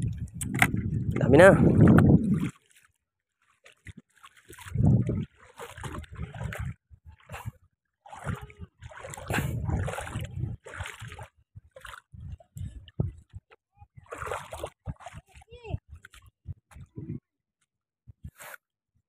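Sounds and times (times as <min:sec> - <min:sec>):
feet splashing in shallow water: 0:00.1 - 0:16.8.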